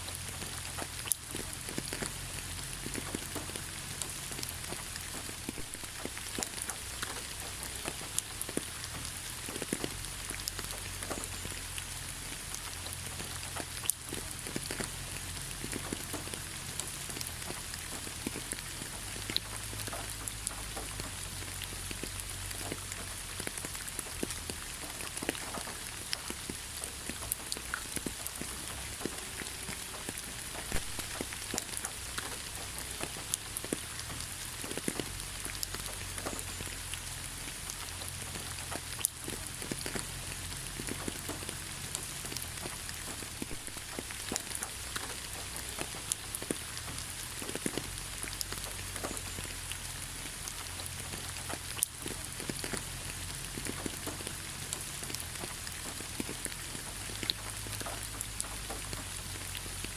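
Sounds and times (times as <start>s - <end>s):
rain drops pattering: 0.0s - 59.9s
rain hiss: 0.0s - 59.9s.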